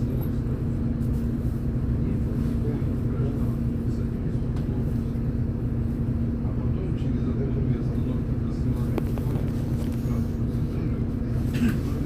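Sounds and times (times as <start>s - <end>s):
bus engine rumble with whine: 0.0s - 12.0s.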